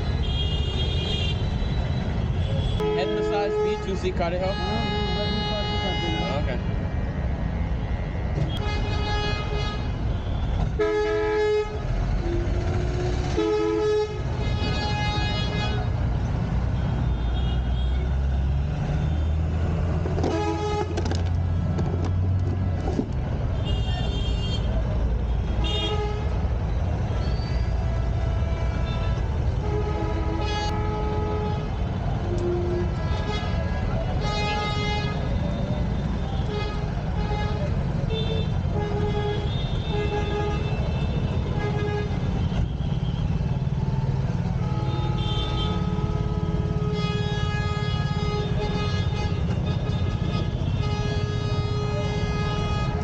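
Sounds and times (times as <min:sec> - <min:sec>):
vehicle horns honking: 0:00.0 - 0:06.6, 0:08.4 - 0:16.0, 0:20.2 - 0:21.7, 0:23.5 - 0:53.0
engines rumbling: 0:00.0 - 0:53.0.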